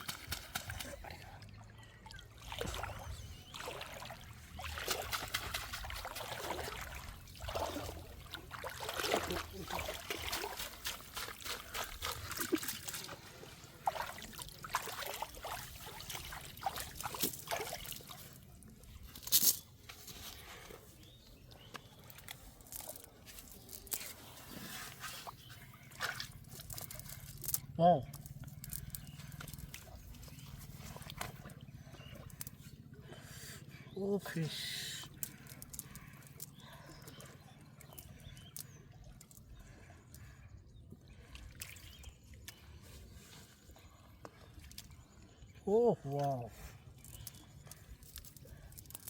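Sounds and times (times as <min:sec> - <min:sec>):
water trickling and sloshing: 0:00.0 - 0:49.0.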